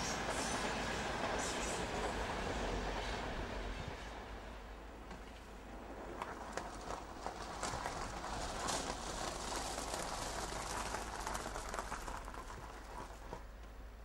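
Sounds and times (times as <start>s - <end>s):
train rattling on rails: 0.0s - 13.9s.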